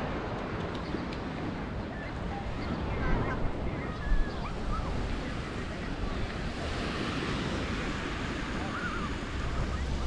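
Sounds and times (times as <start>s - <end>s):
sea waves on sandy beach: 0.0s - 10.0s
wind rumbling on microphone: 0.0s - 10.0s.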